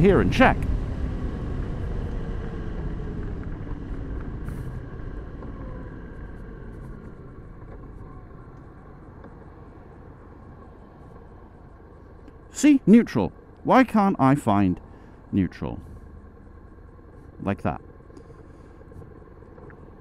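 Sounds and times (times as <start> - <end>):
motorcycle engine and road rumble: 0.0 - 20.0.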